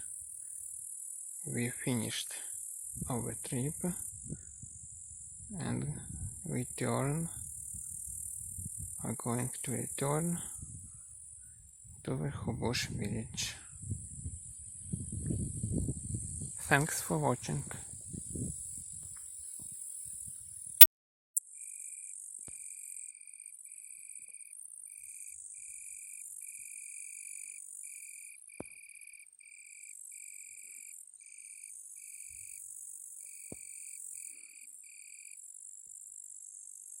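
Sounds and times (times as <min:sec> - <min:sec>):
cricket trilling: 0:00.0 - 0:12.8, 0:13.8 - 0:20.7, 0:23.6 - 0:37.0
chorus of crickets: 0:00.0 - 0:20.8, 0:21.4 - 0:37.0.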